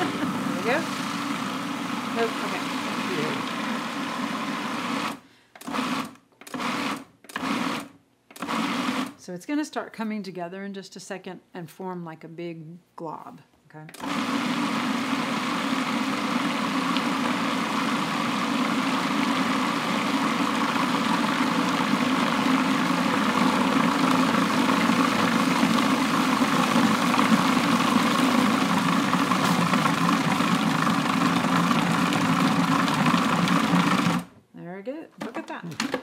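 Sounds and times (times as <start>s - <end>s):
food processor motor running: 0.0s - 9.2s, 14.0s - 34.4s.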